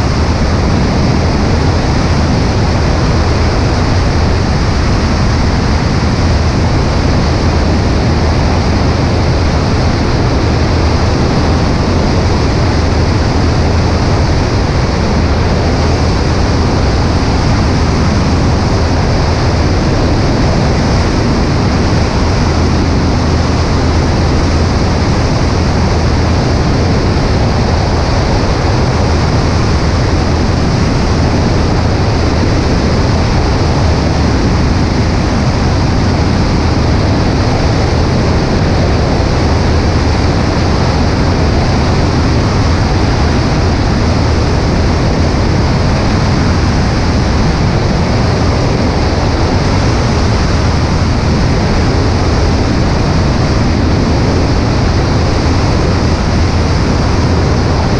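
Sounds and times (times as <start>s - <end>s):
light aircraft engine drone: 0.0s - 57.9s
wind rushing: 0.0s - 57.9s.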